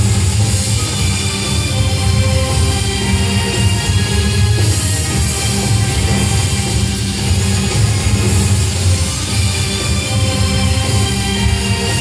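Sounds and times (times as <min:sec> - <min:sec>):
loud music with strong bass: 0:00.0 - 0:12.0.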